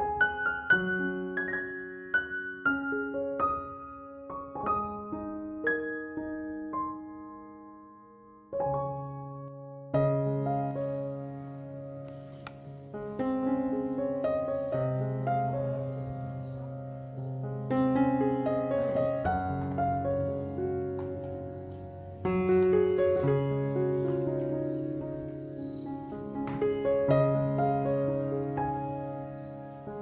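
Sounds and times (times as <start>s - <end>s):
gentle piano chords: 0.0s - 30.0s.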